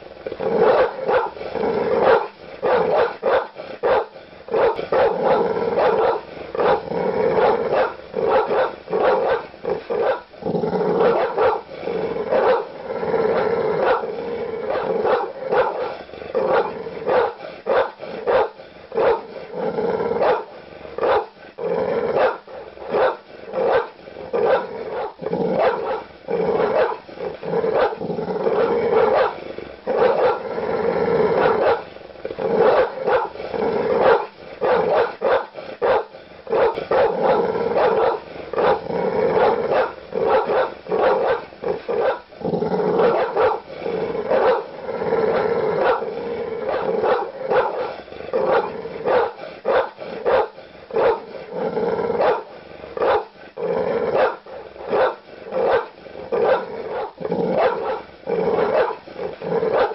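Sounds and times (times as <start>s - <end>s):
large dog barking aggressively: 0.2s - 59.9s.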